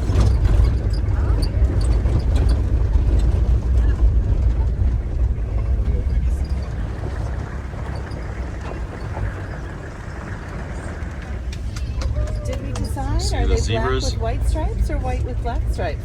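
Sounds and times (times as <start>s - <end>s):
vehicle rumbling on rough road: 0.0s - 16.0s.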